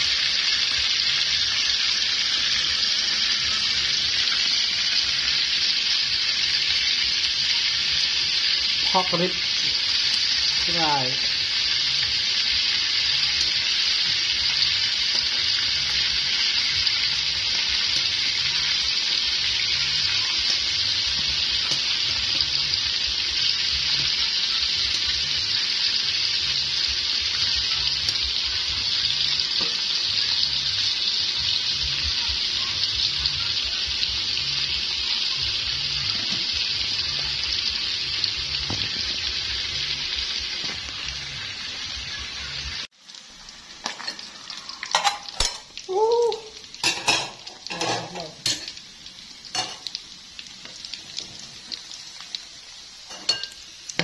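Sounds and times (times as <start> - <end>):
ribs sizzling in hot fat: 0.0 - 54.0.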